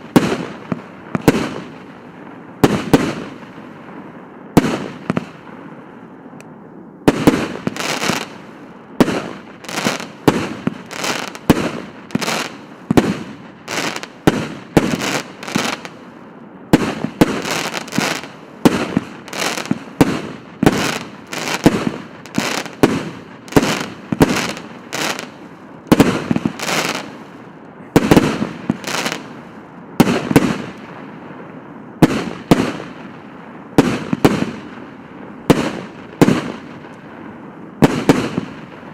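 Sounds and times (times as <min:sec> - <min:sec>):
firework shots: 0:00.0 - 0:38.9.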